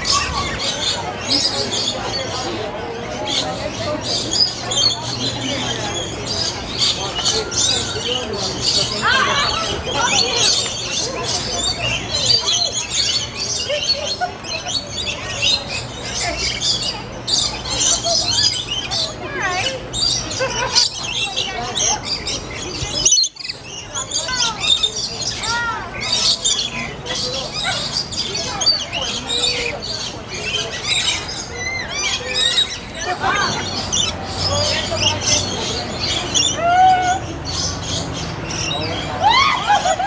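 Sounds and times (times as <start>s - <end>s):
lorikeets chattering: 0.0s - 40.0s
parrots squawking and chirping: 0.0s - 40.0s.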